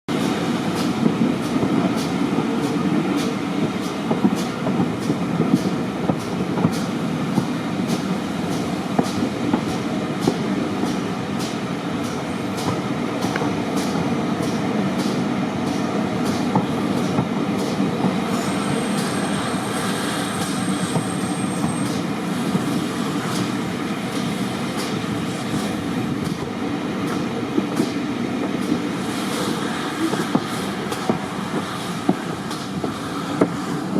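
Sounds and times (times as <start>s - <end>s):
train rumbling on track: 0.1s - 33.9s.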